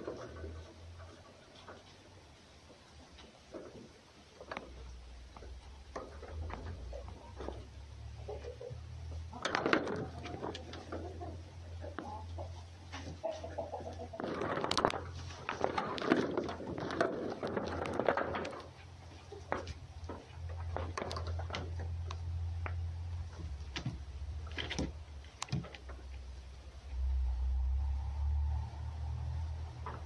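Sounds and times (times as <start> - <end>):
animals scuffling and scratching: 0.0 - 26.7.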